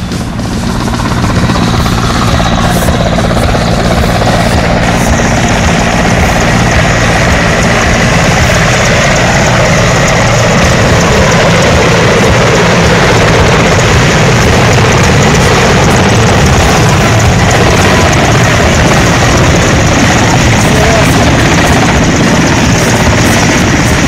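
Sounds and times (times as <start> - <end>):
helicopter rotor rumble: 0.0 - 24.0
helicopter turbine whine: 0.0 - 24.0.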